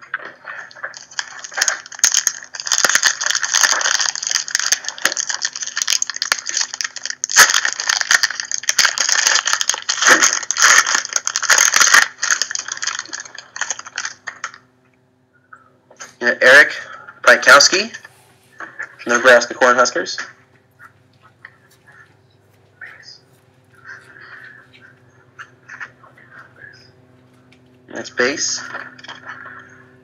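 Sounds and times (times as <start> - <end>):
foil wrapper crinkling: 0.2 - 14.6, 17.4 - 29.9.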